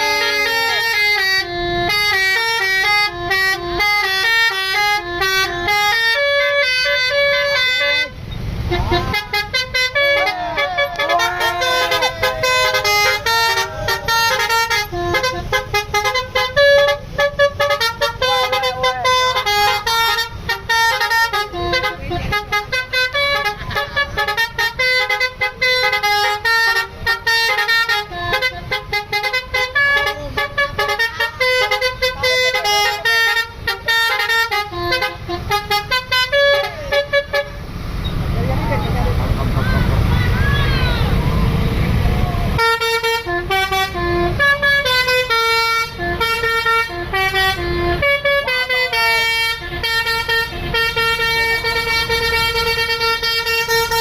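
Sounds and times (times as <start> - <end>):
bus musical horn melody: 0.0 - 38.0, 39.0 - 54.0.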